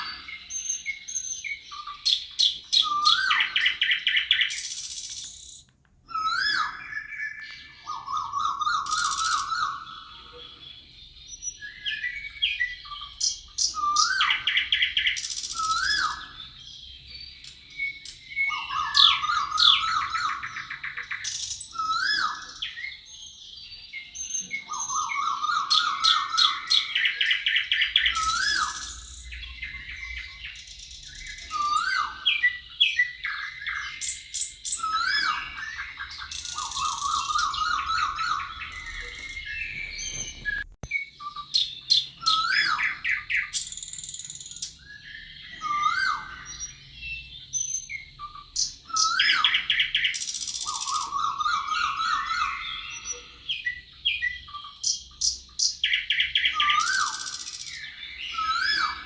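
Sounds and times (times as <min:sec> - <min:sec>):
songbirds singing in chorus: 0:00.0 - 0:59.0
upslurred bird whistle: 0:00.0 - 0:59.0.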